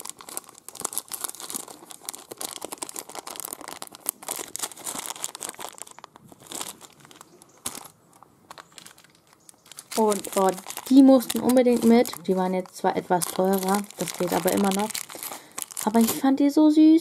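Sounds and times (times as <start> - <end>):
packaging crinkling and rustling: 0.0 - 16.4.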